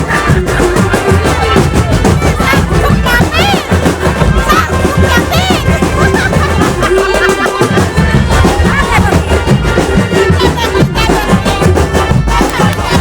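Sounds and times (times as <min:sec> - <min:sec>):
music with percussion and reedy melody: 0:00.0 - 0:13.0.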